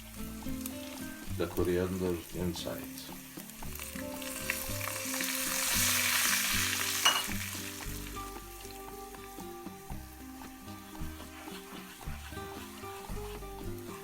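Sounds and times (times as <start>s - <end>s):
garlic sizzling in a pan: 0.0s - 14.0s.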